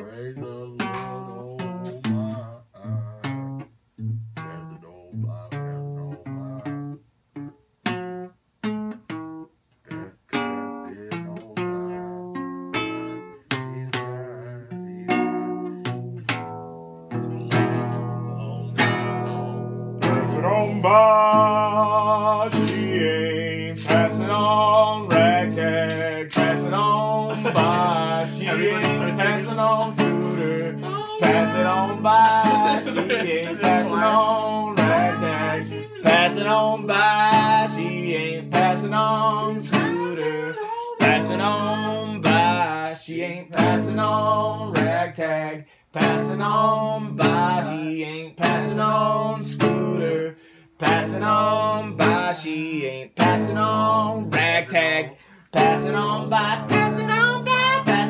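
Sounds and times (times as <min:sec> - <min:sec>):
man singing wordlessly: 0:00.0 - 0:07.0, 0:09.9 - 0:12.5, 0:13.1 - 0:16.5, 0:17.1 - 0:58.0
classical guitar playing: 0:00.0 - 0:58.0.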